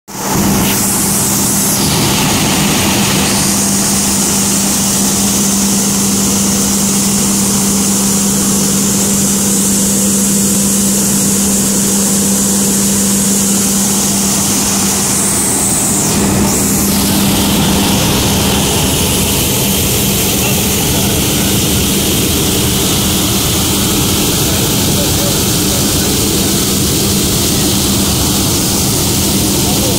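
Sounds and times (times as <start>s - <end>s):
blower air hiss: 0.1s - 29.9s
machine drone with low hum: 0.1s - 29.9s.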